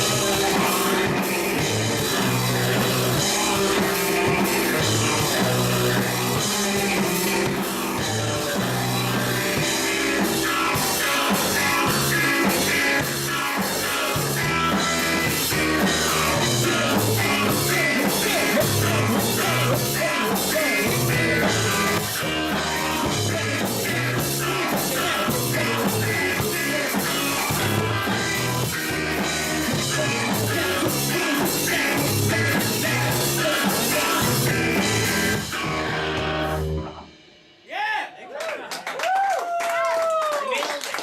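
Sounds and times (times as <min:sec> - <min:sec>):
rock music with singing: 0:00.0 - 0:38.0.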